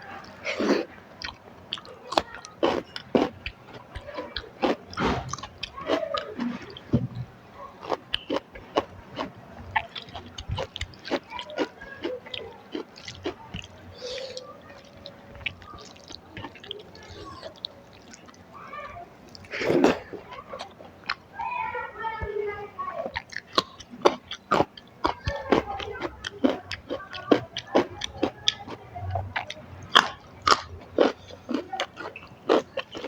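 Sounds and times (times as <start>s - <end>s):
person chewing with wet smacks: 0.0s - 21.4s, 23.0s - 33.0s.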